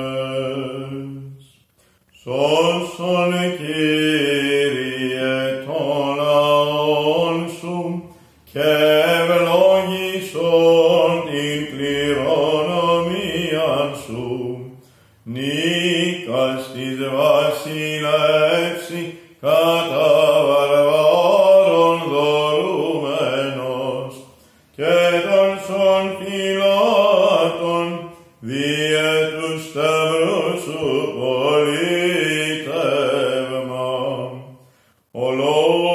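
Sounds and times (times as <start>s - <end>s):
man chanting: 0.0s - 1.5s, 2.2s - 35.9s.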